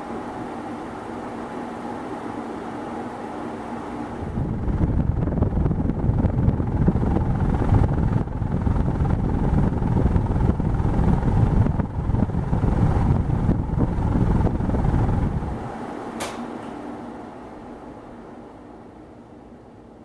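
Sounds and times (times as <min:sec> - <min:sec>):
ceiling fan downdraft rumble: 0:00.0 - 0:20.0.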